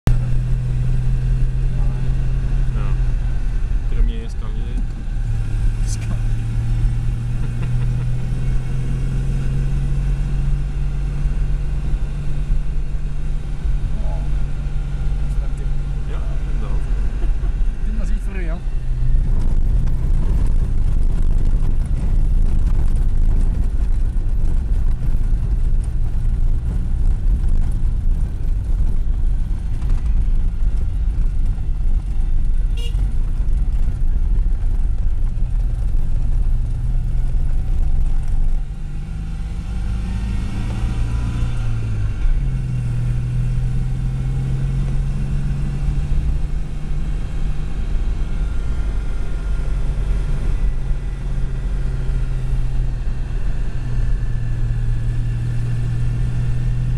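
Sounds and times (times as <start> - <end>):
car engine running: 0.0 - 56.9
road noise: 0.0 - 56.9.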